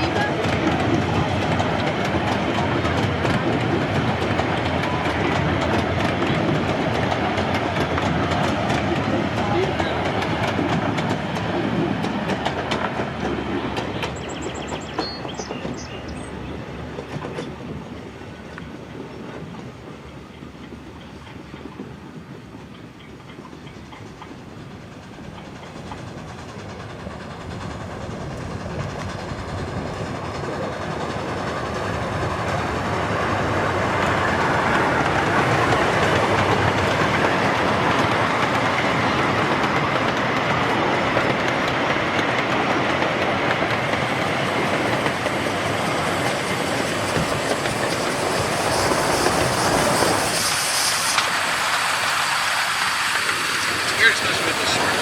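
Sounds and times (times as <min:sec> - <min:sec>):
wheels clicking over rail joints: 0:00.0 - 0:18.7, 0:19.3 - 0:55.0
steam train running: 0:00.0 - 0:55.0.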